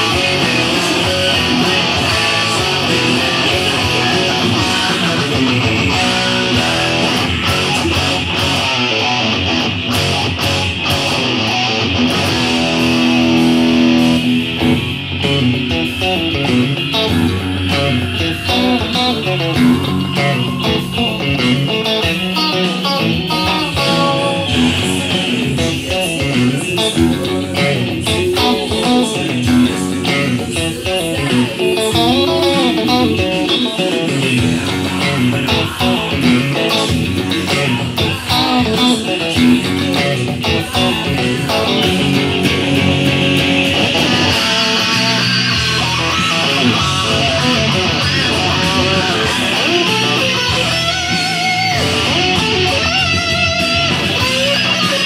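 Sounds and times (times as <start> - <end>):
electric guitar: 0.0 - 55.0
rock band playing: 0.0 - 55.0.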